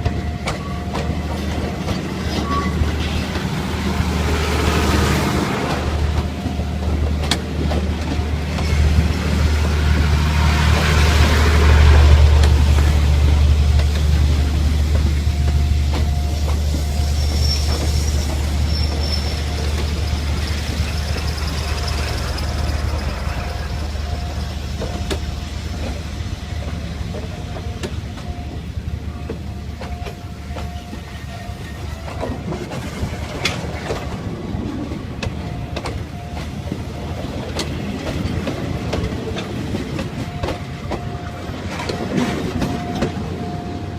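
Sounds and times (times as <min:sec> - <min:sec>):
passenger train rumbling past: 0:00.0 - 0:43.9
wheels clicking over rail joints: 0:00.0 - 0:43.9.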